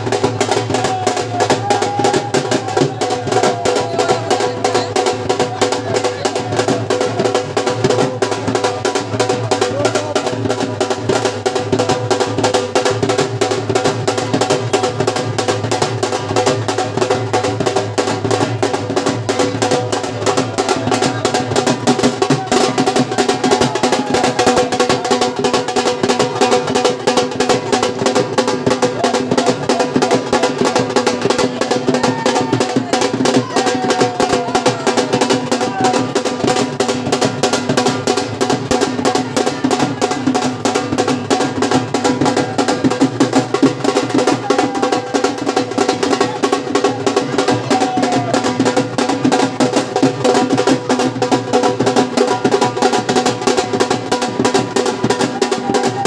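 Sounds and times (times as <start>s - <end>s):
fast barrel drum beat: 0.0s - 56.0s.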